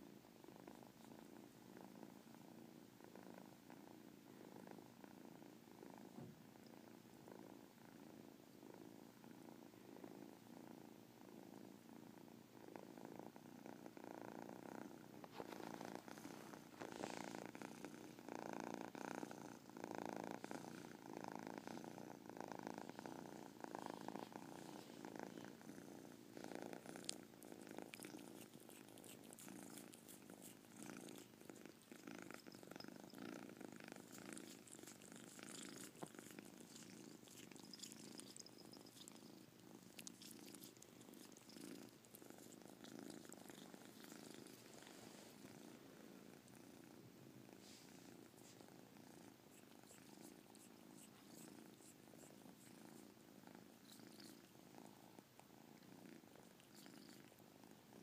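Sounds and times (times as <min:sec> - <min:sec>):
kitten purring: 0:00.0 - 0:58.0.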